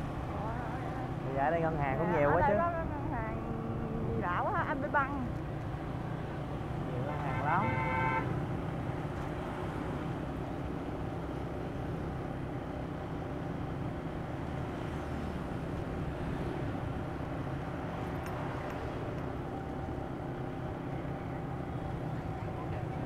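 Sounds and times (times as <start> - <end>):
road and traffic noise: 0.0 - 23.0.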